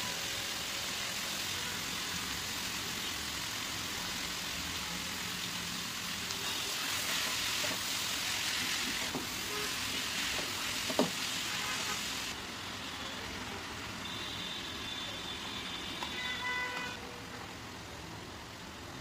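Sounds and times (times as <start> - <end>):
mushrooms sizzling in a wok: 0.0 - 16.2.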